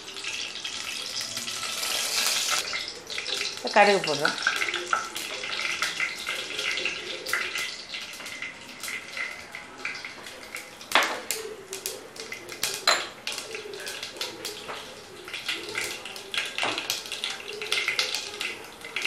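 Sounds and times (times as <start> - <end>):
mustard seeds sizzling in hot oil: 0.0 - 19.0.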